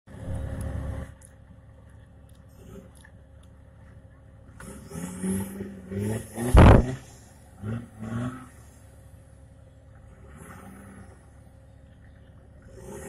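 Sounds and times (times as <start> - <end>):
buggy engine revving: 0.1 - 13.0.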